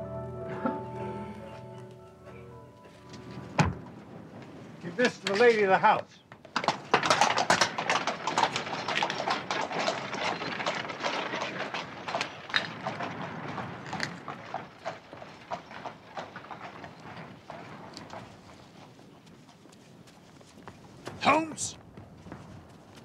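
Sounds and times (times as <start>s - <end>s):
hooves clip-clopping on cobblestones: 1.5s - 23.0s.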